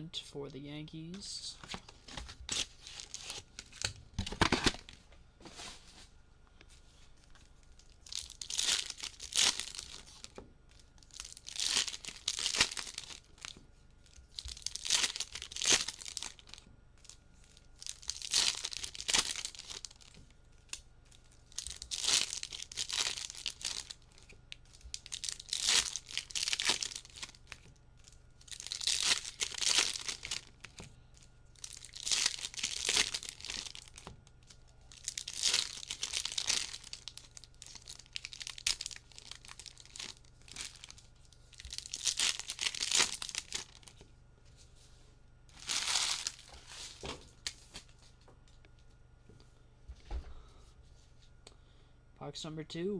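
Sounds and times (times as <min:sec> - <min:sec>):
plastic wrappers crinkling and tearing: 0:01.5 - 0:05.0, 0:07.2 - 0:44.1, 0:45.5 - 0:48.6.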